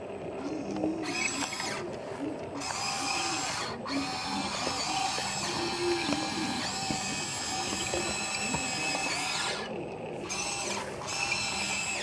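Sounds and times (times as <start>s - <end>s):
toy gear motors whining: 0.4s - 1.9s, 2.6s - 12.0s.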